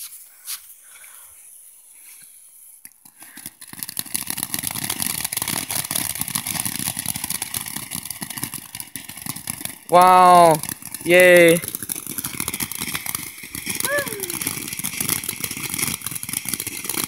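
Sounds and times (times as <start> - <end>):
firework hissing and crackling: 0.0 - 17.0
fuse burning: 0.1 - 17.0.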